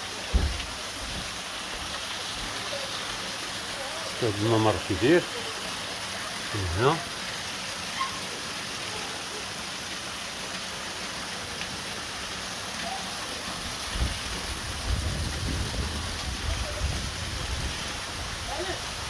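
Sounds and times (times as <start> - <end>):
spraying and falling water hiss: 0.0 - 19.0.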